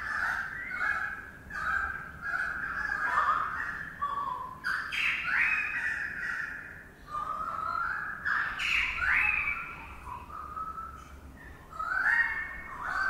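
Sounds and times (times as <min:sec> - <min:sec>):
bird calling harshly: 0:00.0 - 0:13.0.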